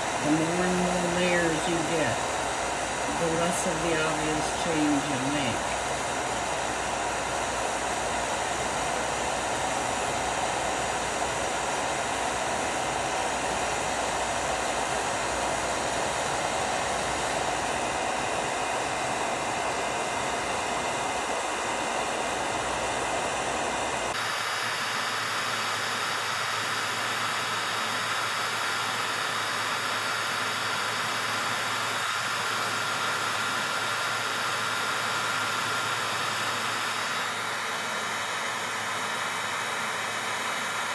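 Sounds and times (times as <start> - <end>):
heat gun blowing hot air: 0.0 - 40.9.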